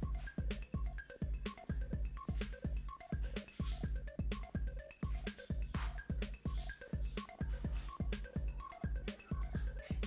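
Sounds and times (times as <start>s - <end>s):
electronic music: 0.0s - 10.0s
punchy bass beat: 0.0s - 10.0s.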